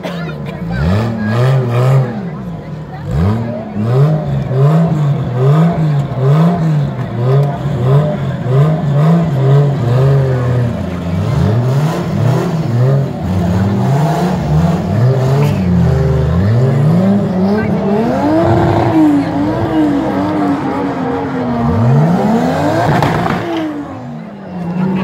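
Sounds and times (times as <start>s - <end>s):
car engine revving hard: 0.6s - 25.0s.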